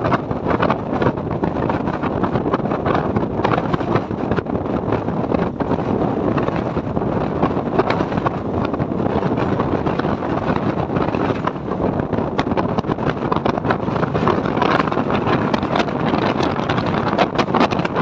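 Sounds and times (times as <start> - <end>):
train wheels rumbling on track: 0.0 - 18.0
wind on microphone: 0.0 - 18.0.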